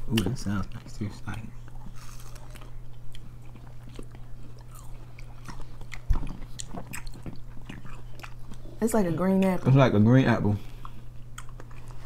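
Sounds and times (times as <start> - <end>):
crunching and chewing fruit: 0.0 - 12.0
low steady hum: 0.0 - 12.0.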